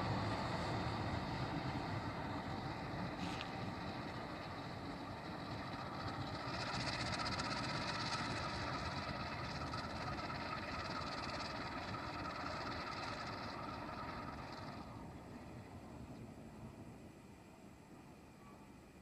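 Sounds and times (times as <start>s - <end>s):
locomotive engine drone: 0.0s - 19.0s
rail noise: 0.0s - 19.0s.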